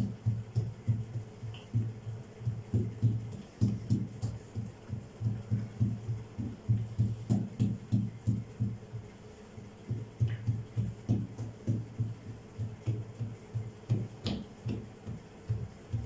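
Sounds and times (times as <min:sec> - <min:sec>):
hands patting dough: 0:00.0 - 0:16.0.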